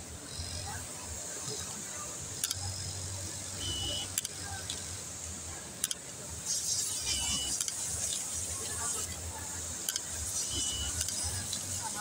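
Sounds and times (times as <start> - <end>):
faint voices: 0.1 - 12.0.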